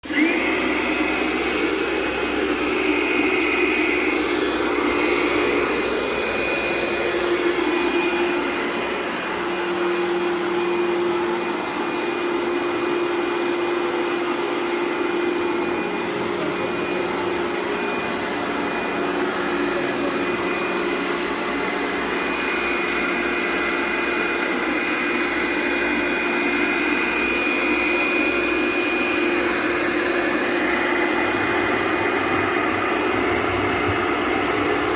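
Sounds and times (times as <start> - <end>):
machine motor whirring: 0.1 - 34.9.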